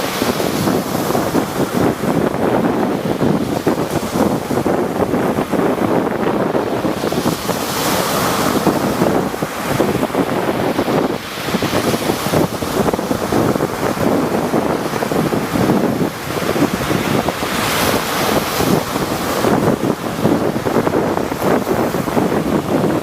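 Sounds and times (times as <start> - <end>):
waves breaking: 0.0 - 23.0
wind buffeting microphone: 0.0 - 23.0.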